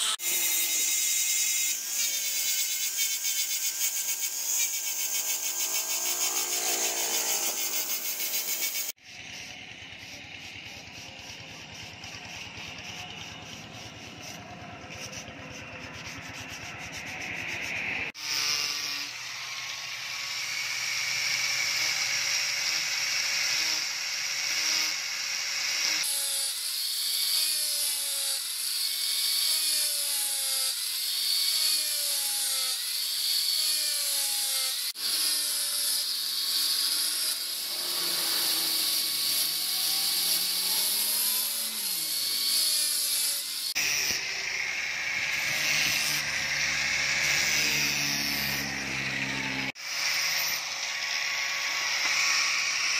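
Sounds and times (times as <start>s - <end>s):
angle grinder grinding steel: 0.0s - 52.9s.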